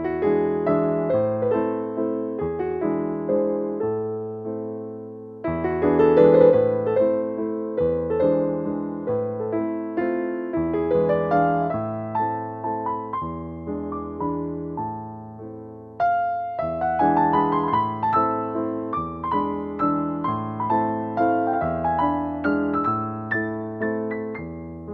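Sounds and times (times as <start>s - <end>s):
piano music: 0.0s - 24.9s.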